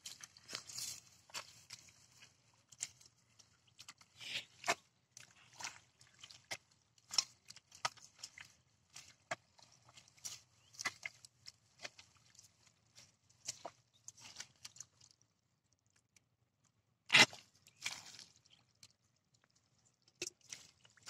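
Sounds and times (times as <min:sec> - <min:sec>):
hands digging in wet mud: 0:00.0 - 0:15.2, 0:17.1 - 0:21.0.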